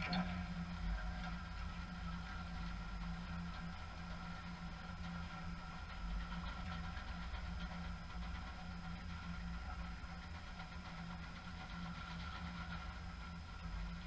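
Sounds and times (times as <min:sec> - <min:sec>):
low pulsing machine hum: 0:00.0 - 0:14.0.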